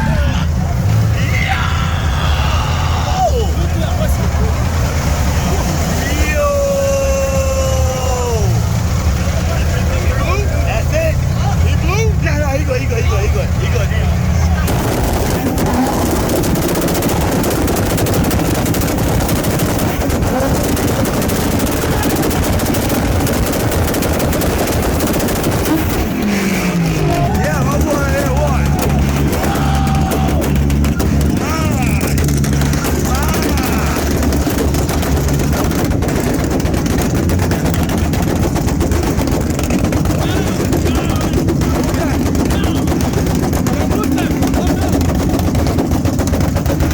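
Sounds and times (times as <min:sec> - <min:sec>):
car engine at rev limiter: 0:00.0 - 0:46.9
exhaust popping: 0:00.0 - 0:46.9.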